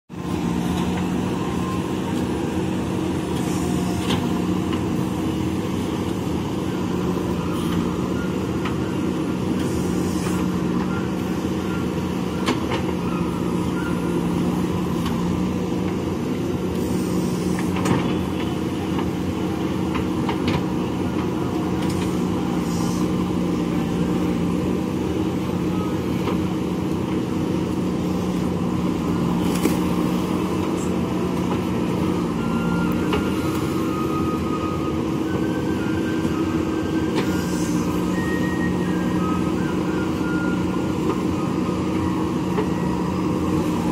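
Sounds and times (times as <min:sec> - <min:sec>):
diesel engine under load: 0:00.1 - 0:43.9.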